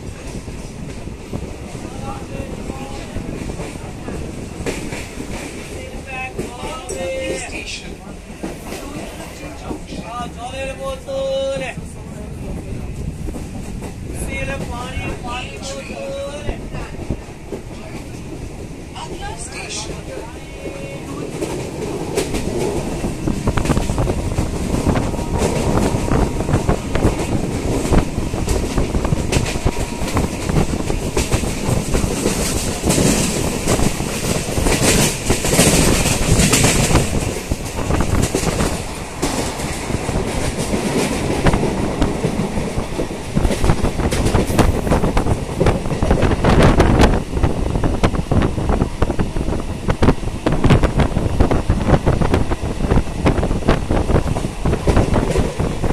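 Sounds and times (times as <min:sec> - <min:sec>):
train rumble: 0:00.0 - 0:55.9.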